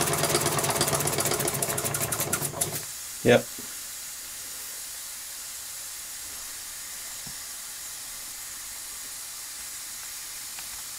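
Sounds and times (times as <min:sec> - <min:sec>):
steam hissing: 0:00.0 - 0:10.9.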